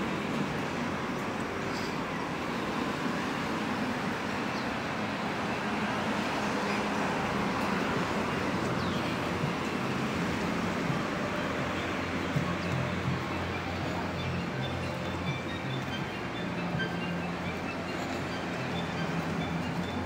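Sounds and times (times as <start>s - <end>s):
traffic noise hiss: 0.0s - 20.0s.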